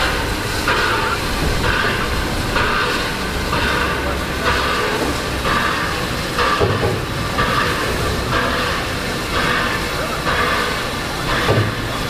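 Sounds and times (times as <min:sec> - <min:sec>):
steady steam hiss: 0:00.0 - 0:12.0
steam locomotive chuffing: 0:00.0 - 0:12.0.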